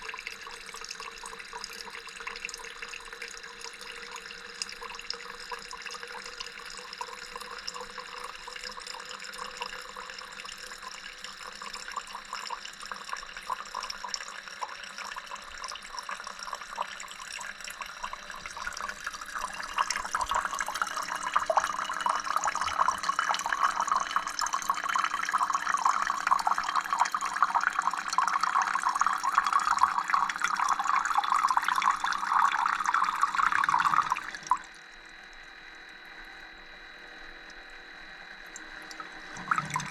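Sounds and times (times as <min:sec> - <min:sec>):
water stream splashing into carafe: 0:00.0 - 0:36.1, 0:37.1 - 0:39.9
coffee machine pumping water: 0:00.0 - 0:39.9.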